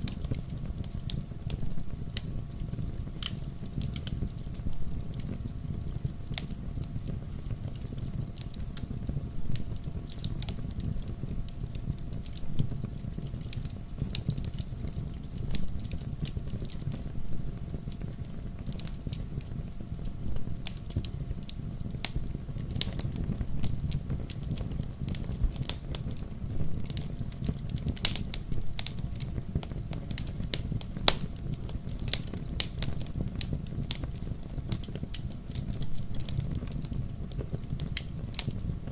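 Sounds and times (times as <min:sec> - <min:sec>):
bonfire rumbling: 0:00.0 - 0:38.9
burning wood crackling: 0:00.0 - 0:38.9.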